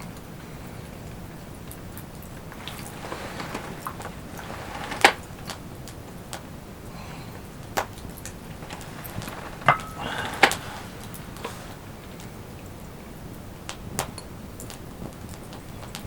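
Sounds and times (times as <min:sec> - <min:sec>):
low steady background noise: 0:00.0 - 0:16.0.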